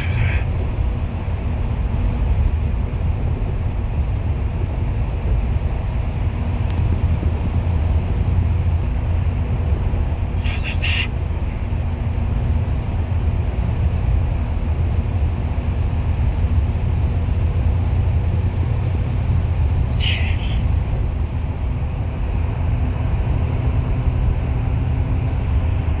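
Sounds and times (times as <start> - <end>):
bus engine and tyres rumbling: 0.0 - 26.0.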